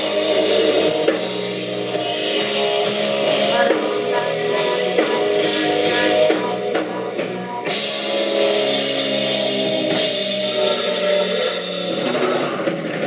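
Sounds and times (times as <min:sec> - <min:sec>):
bass guitar: 0:00.0 - 0:13.0
drum kit with cymbals: 0:00.0 - 0:13.0
electric guitar: 0:00.0 - 0:13.0.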